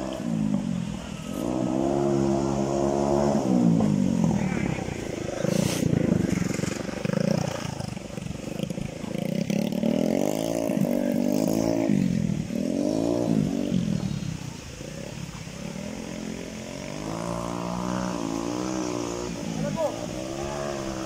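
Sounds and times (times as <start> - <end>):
engine revving up and down: 0.0 - 21.0.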